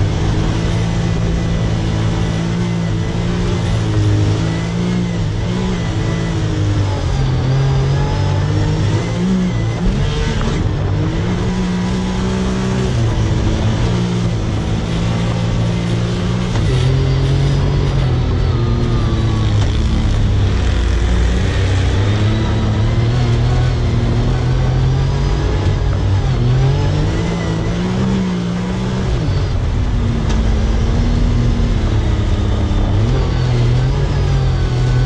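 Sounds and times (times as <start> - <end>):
utility vehicle engine under load: 0.0 - 35.0
wind: 0.0 - 35.0.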